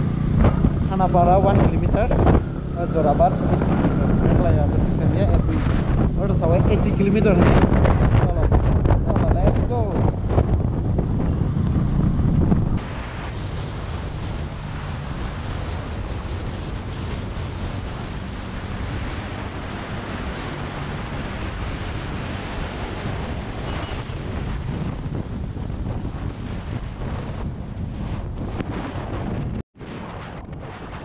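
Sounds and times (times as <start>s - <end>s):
motorcycle engine drone: 0.0s - 31.0s
wind rushing over microphone: 0.0s - 31.0s.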